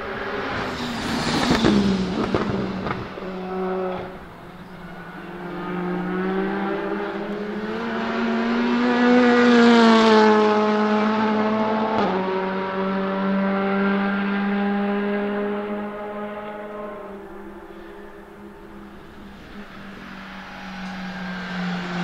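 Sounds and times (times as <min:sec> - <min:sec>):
race car passing at high revs: 0:00.0 - 0:22.0.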